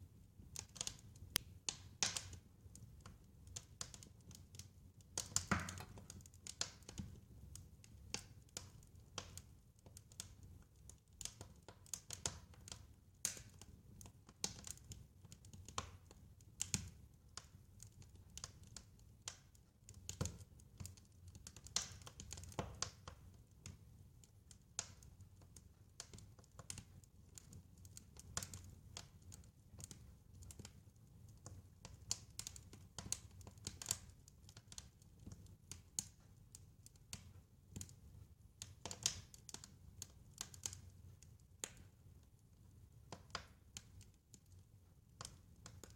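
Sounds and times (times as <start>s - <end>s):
wood fire crackling: 0.2s - 45.9s
sharp pops and snaps: 0.5s - 45.9s.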